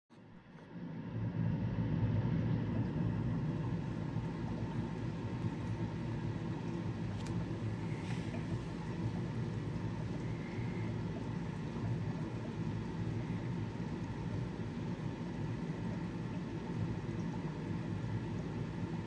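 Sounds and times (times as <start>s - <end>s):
aquarium pumps humming: 0.2s - 19.0s.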